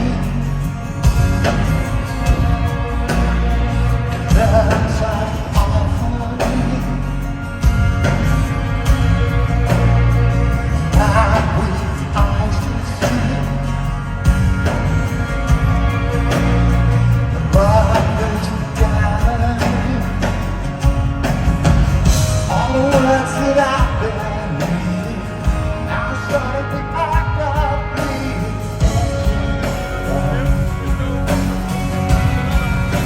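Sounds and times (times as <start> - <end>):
person singing lead vocal: 0.0 - 20.8, 22.2 - 31.6
bass and guitars: 0.0 - 33.0
steady drumbeat: 0.0 - 33.0.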